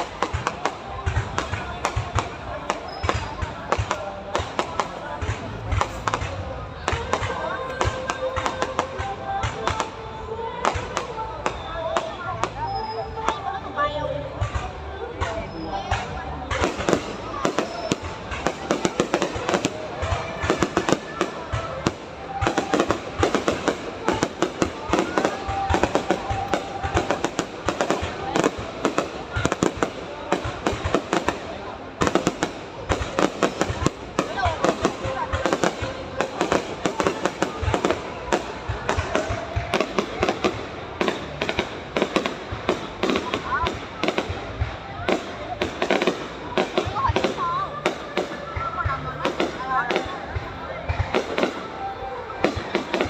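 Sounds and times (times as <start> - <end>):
fireworks bangs and crackling: 0.0 - 53.0.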